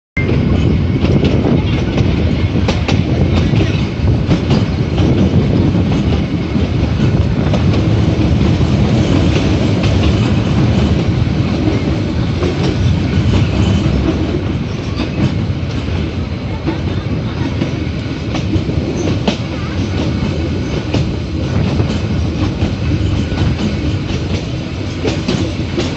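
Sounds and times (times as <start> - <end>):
train rumbling: 0.2 - 25.9.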